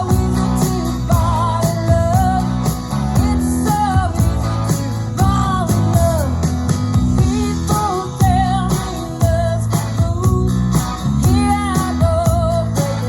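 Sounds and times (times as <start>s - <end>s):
woman singing: 0.0s - 6.5s, 7.1s - 13.0s
rock song through speaker: 0.0s - 13.0s.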